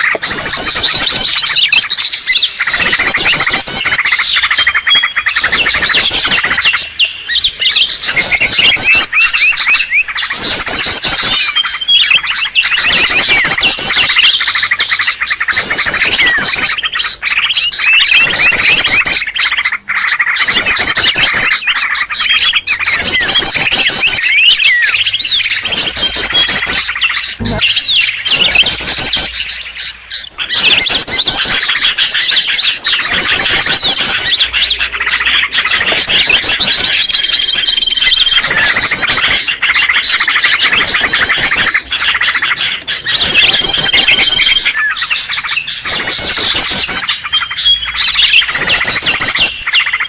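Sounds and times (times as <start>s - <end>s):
birds chattering and squawking: 0.0s - 50.0s
fast high bird trills: 0.0s - 50.0s.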